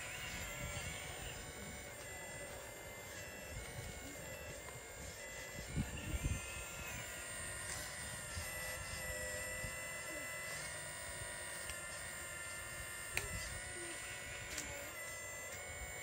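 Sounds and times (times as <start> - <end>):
electric motors whining: 0.0 - 16.0.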